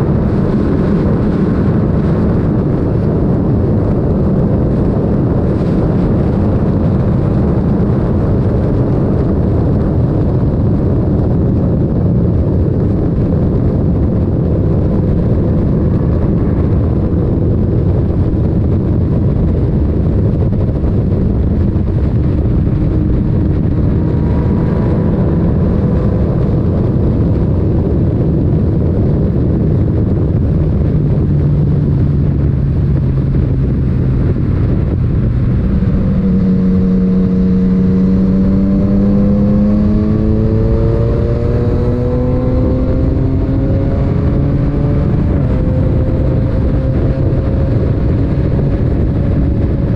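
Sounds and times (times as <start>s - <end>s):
motorcycle engine drone: 0.0s - 49.9s.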